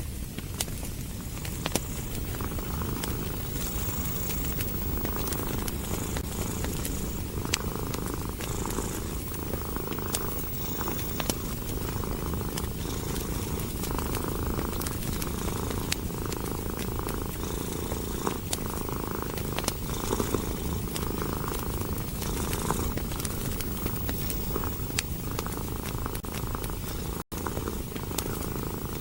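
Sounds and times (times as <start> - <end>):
wood fire crackling: 0.0 - 29.0
cat purring: 0.8 - 29.0.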